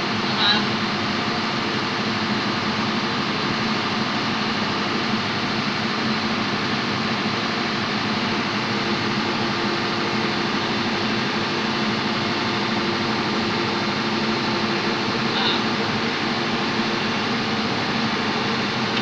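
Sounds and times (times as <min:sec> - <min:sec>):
engine room machinery drone: 0:00.0 - 0:19.0.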